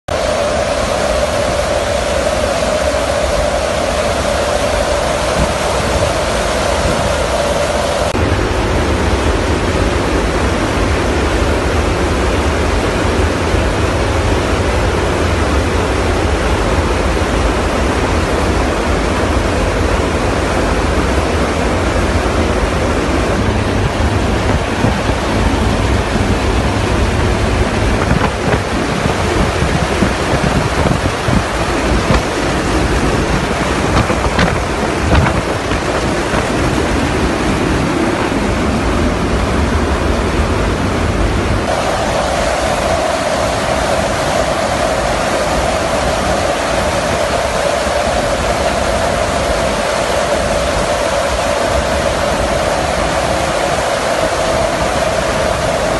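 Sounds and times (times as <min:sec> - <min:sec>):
aircraft engine noise: 0:00.0 - 0:55.9
steady tone: 0:00.1 - 0:55.9
wind rushing: 0:00.1 - 0:55.9.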